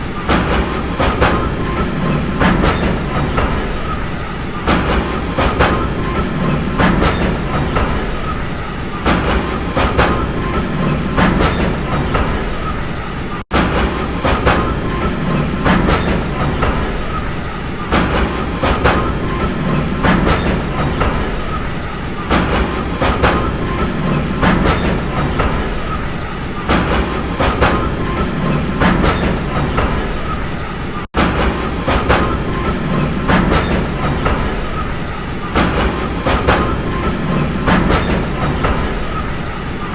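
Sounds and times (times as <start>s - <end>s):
train rumble: 0.0s - 39.9s
train wheels clacking on rail joints: 0.0s - 39.9s.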